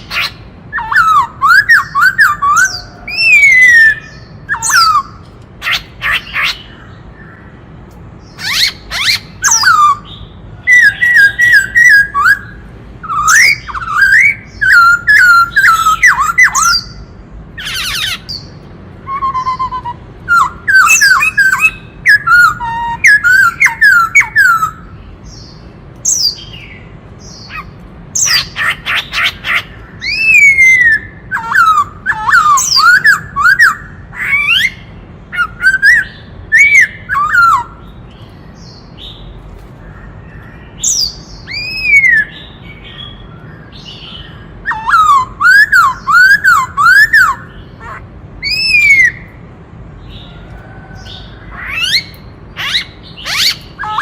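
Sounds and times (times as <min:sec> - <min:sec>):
bird singing whistled notes: 0:00.0 - 0:07.4, 0:08.2 - 0:39.3, 0:40.3 - 0:47.8, 0:48.4 - 0:49.4, 0:51.1 - 0:54.0
harsh rasping bird calls: 0:00.0 - 0:54.0.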